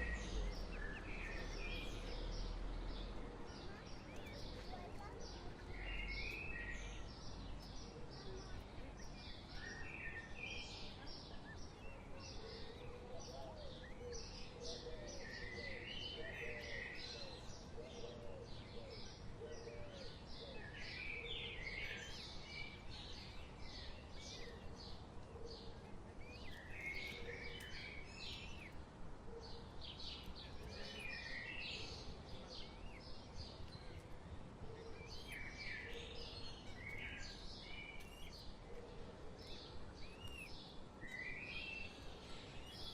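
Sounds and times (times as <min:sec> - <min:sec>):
birds chirping: 0:00.0 - 0:42.9
low background noise: 0:00.0 - 0:42.9.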